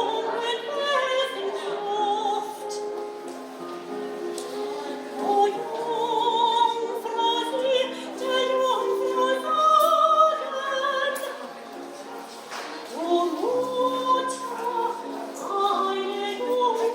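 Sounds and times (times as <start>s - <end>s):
operatic singing with vibrato: 0.0s - 2.8s, 4.8s - 11.7s, 12.9s - 16.9s.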